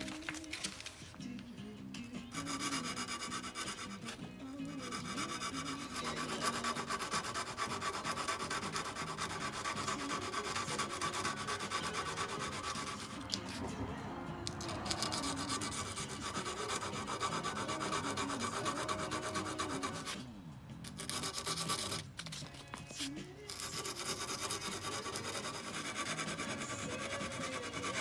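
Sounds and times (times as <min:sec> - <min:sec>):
background music: 0:00.0 - 0:28.0
sandpaper rubbing strokes: 0:02.3 - 0:13.6, 0:14.5 - 0:20.2, 0:20.8 - 0:28.0.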